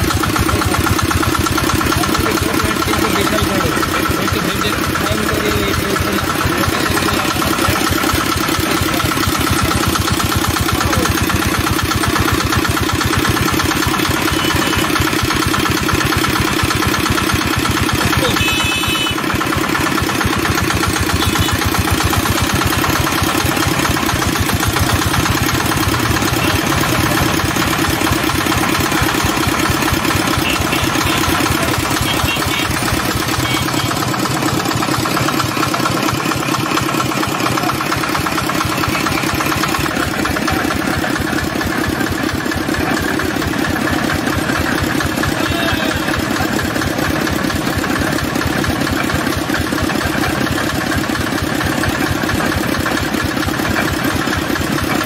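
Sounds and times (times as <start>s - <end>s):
small engine running: 0.0s - 55.0s
sugarcane crusher rollers: 0.0s - 55.0s.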